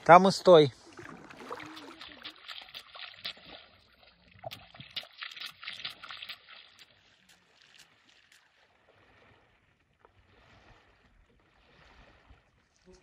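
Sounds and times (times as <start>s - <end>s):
river water splashing and trickling: 0.0s - 13.0s.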